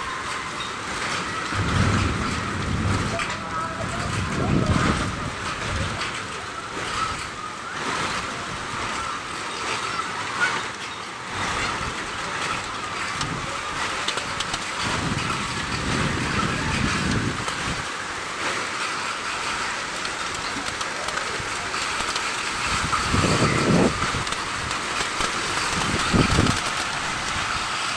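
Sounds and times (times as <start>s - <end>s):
rain hiss: 0.0s - 27.9s.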